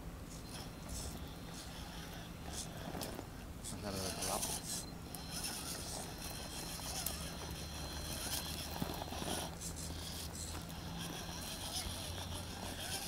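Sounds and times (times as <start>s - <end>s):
toy motor and gears whirring: 0.3s - 13.0s
tyres scraping on stone: 0.6s - 13.0s.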